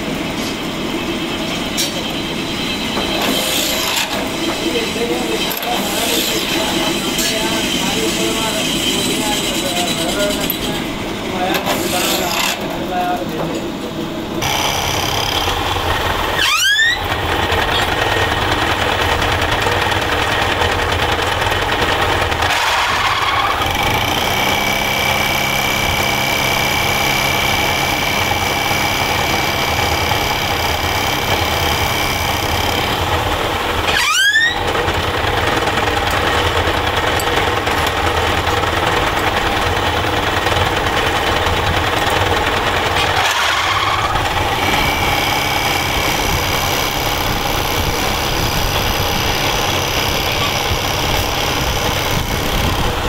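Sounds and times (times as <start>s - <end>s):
metal lathe motor whine: 0.0s - 53.0s.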